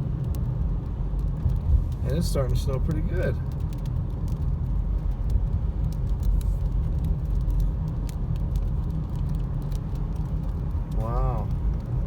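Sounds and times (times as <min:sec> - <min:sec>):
car rumble inside cabin: 0:00.0 - 0:12.0.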